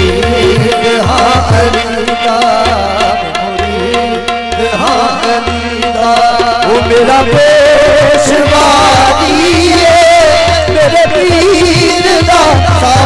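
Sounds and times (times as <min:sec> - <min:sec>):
harmonium held notes: 0:00.0 - 0:13.0
tabla drumming: 0:00.0 - 0:13.0.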